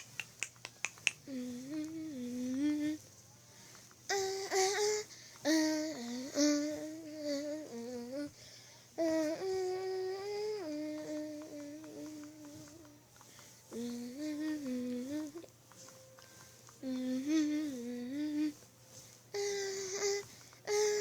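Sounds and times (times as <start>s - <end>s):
person humming a tune: 0.0s - 3.1s, 3.7s - 21.0s.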